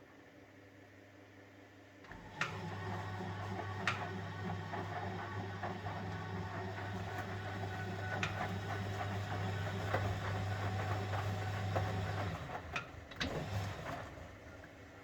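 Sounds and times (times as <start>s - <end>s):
washing machine humming: 2.0s - 15.0s.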